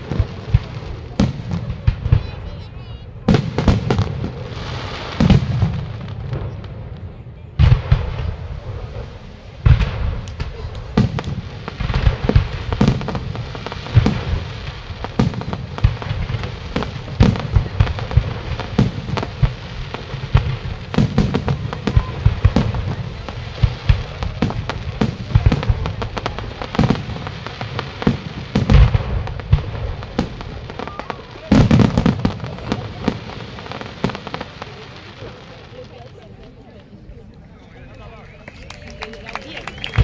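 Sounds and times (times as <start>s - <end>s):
crackling hiss: 3.3s - 37.4s.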